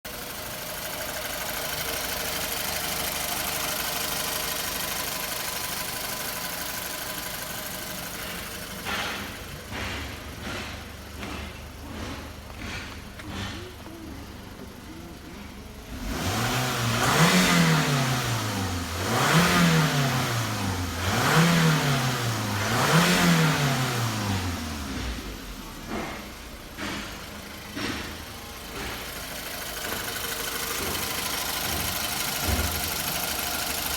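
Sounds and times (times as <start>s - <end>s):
car engine running: 0.1s - 33.9s
engine knocking: 0.1s - 33.9s
engine revving: 0.2s - 33.9s.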